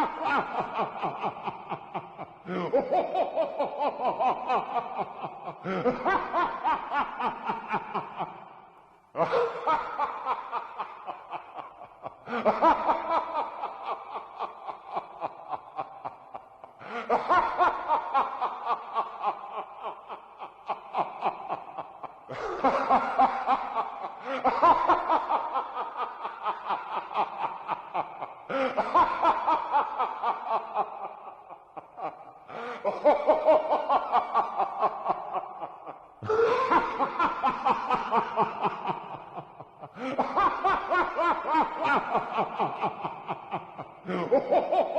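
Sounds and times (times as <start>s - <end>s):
evil laugh: 0.0s - 44.9s.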